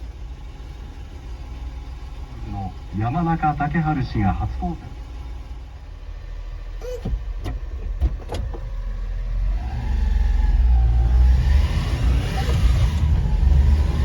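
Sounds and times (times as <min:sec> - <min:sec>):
small truck engine accelerating: 0:00.0 - 0:14.0.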